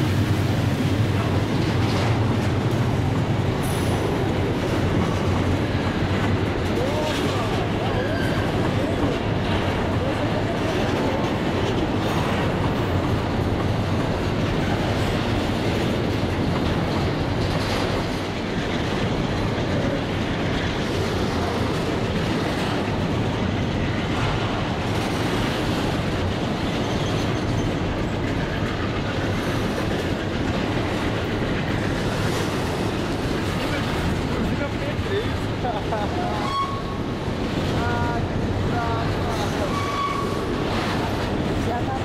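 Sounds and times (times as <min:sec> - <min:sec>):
diesel locomotive engines: 0:00.0 - 0:42.0
train wheels rumbling on rails: 0:00.0 - 0:42.0.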